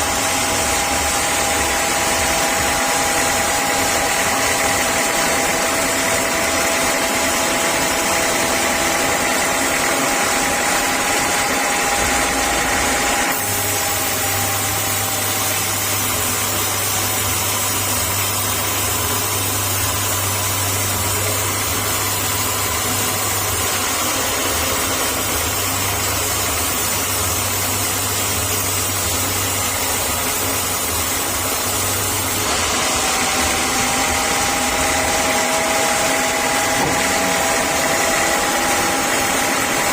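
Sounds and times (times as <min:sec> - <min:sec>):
saw whine: 0:00.0 - 0:39.9
sawmill machine hum: 0:00.0 - 0:39.9.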